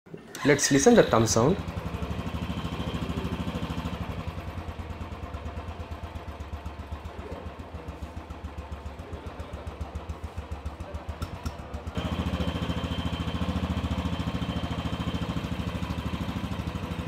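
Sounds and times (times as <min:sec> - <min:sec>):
motorcycle engine idling: 0:00.8 - 0:17.0.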